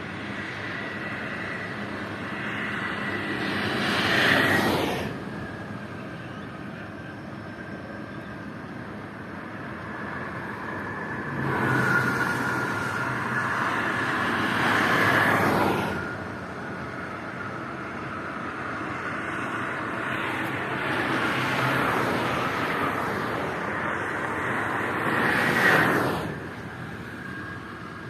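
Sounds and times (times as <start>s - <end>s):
traffic passing at speed: 0.0s - 28.0s.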